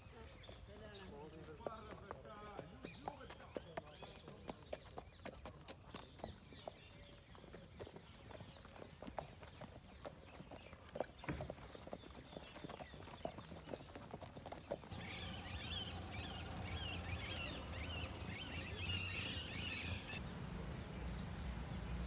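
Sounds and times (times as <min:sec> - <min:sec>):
horse hooves on dirt: 0:00.0 - 0:20.2
birds chirping: 0:00.0 - 0:22.0.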